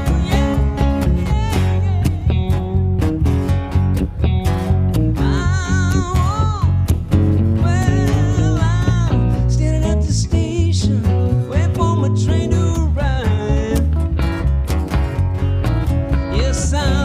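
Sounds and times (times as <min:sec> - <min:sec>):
bass: 0:00.0 - 0:17.0
bending lead instrument notes: 0:00.0 - 0:17.0.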